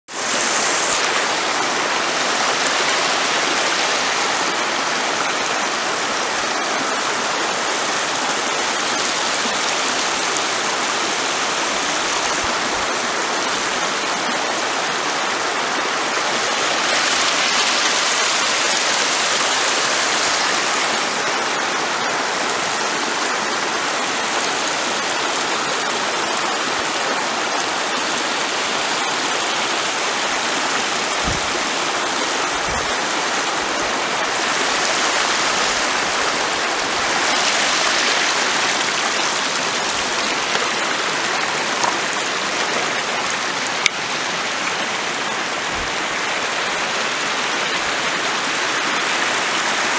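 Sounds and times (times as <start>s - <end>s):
stream splashing over stones: 0.1s - 49.9s.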